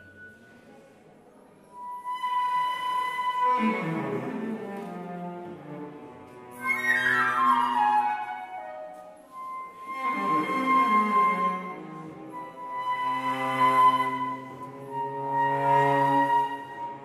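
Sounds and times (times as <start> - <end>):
flute: 0.0 - 0.9, 1.6 - 5.1, 6.5 - 17.0
cello: 1.6 - 17.0.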